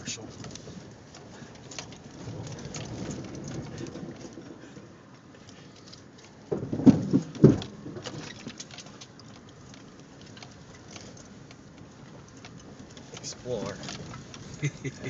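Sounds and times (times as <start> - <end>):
tyres crunching over rocks: 0.0 - 15.0
vehicle thumping over ruts: 0.0 - 15.0.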